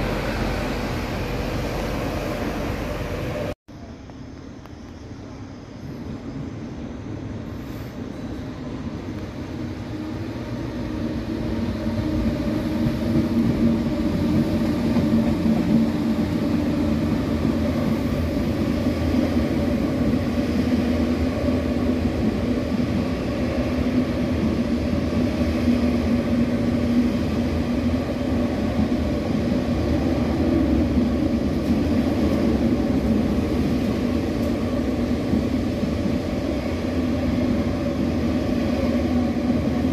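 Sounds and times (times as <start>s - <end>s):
electric train rolling on rails: 0.0s - 39.9s.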